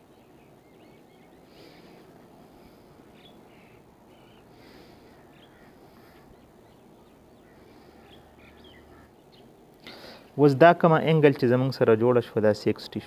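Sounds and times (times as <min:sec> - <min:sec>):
faint birds chirping: 0:00.0 - 0:13.0
steady low hiss: 0:00.0 - 0:13.0.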